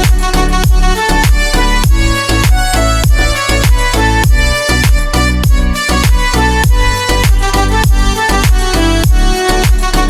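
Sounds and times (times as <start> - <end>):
sustained music notes: 0.0 - 10.0.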